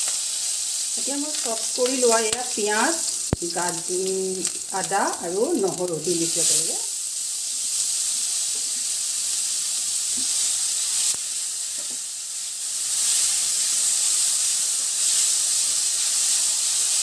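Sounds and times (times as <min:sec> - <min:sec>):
onion and garlic sizzling in oil: 0:00.0 - 0:17.0.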